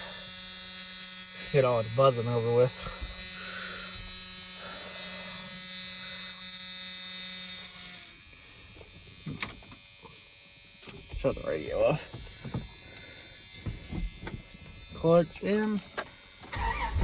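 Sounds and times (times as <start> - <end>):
electrical buzzing: 0.0 - 17.0.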